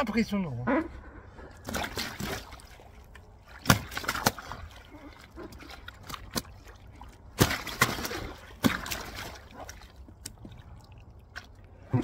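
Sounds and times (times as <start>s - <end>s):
water splashing and sloshing: 0.0s - 12.0s
fish thrashing in shallow water: 1.6s - 12.0s.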